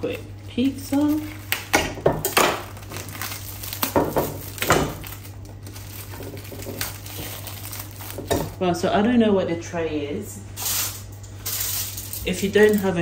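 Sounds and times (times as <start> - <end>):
plastic wrap crinkling and tearing: 0.0 - 8.6, 10.6 - 13.0.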